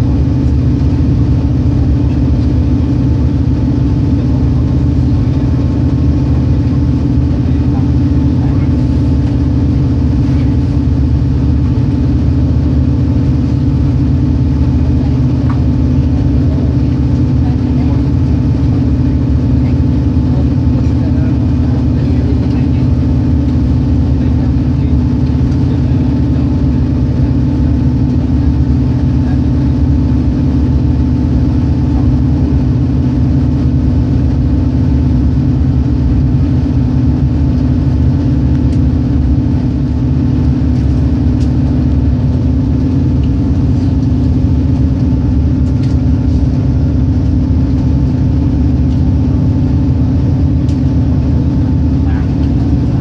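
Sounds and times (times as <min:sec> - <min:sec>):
train rumbling inside carriage: 0:00.0 - 0:53.0.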